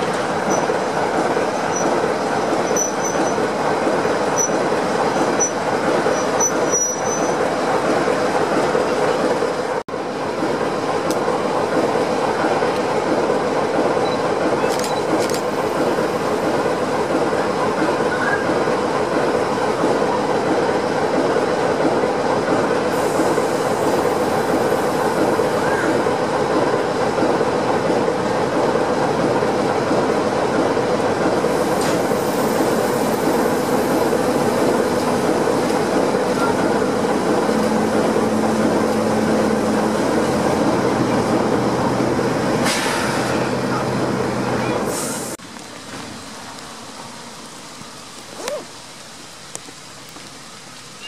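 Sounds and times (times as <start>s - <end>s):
diesel locomotive running: 0.0s - 48.2s.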